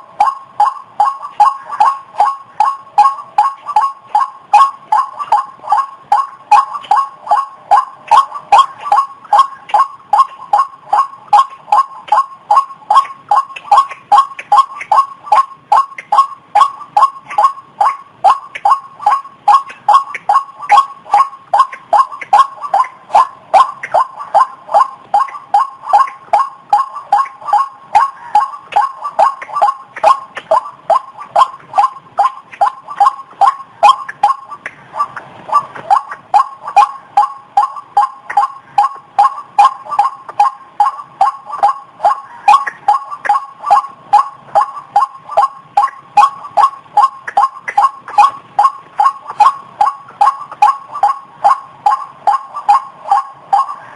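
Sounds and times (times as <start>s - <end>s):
waterhen calling sharp notes: 0.0s - 53.9s.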